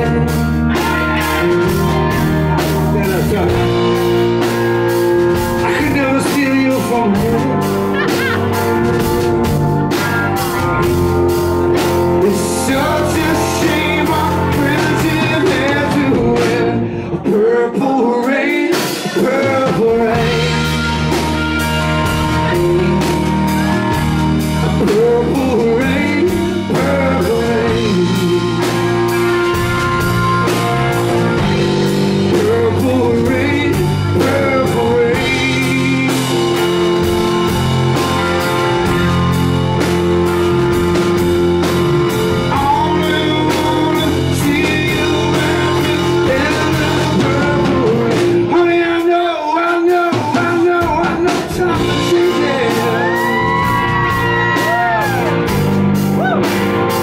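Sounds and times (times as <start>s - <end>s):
man singing: 0.0s - 11.1s, 11.8s - 37.6s, 41.9s - 55.3s
steady drum beat: 0.0s - 16.8s, 18.7s - 57.0s
bass notes: 0.0s - 57.0s
electric guitar: 0.0s - 57.0s.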